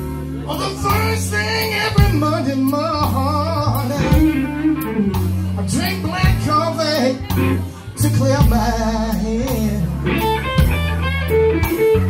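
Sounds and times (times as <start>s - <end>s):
electric guitar: 0.0s - 12.0s
low bass notes: 0.0s - 12.0s
steady beat: 0.0s - 12.0s
man singing with vibrato: 0.4s - 10.3s.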